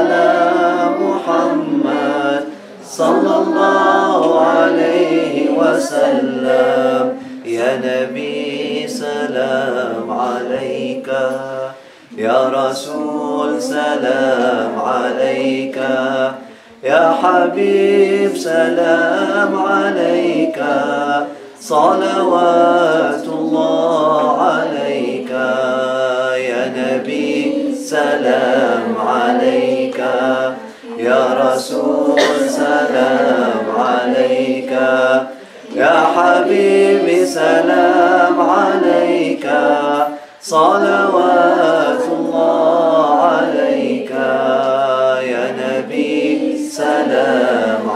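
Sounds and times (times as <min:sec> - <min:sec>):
group of voices chanting: 0:00.0 - 0:47.9.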